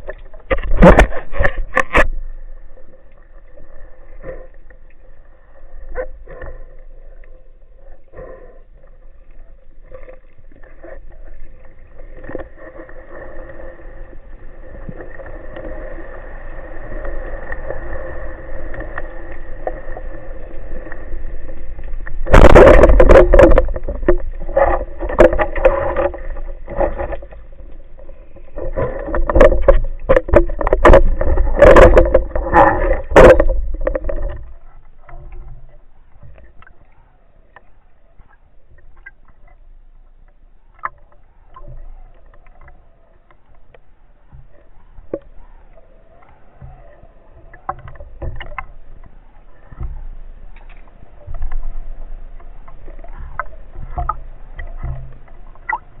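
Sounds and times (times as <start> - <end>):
muffled underwater noise: 0.0 - 56.0.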